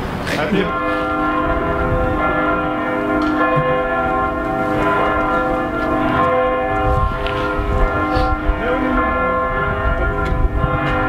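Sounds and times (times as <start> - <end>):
bells ringing: 0.0 - 11.0
low rumbling noise: 0.0 - 11.0.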